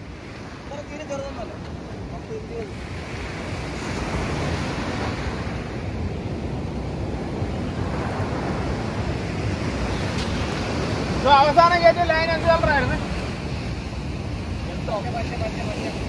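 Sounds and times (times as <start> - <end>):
sea surf washing ashore: 0.0 - 16.0
wind buffeting microphone: 0.0 - 16.0.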